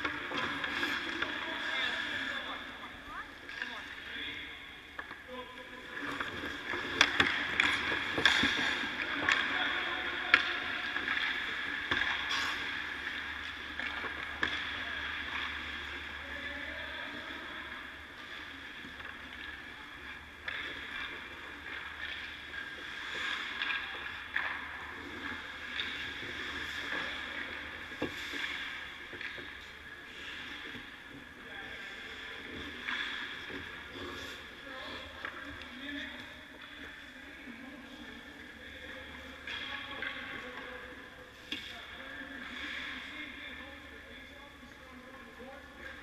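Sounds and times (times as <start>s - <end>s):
pucks and sticks clacking: 0.0s - 2.4s, 4.9s - 5.3s, 5.9s - 37.0s, 37.9s - 43.5s.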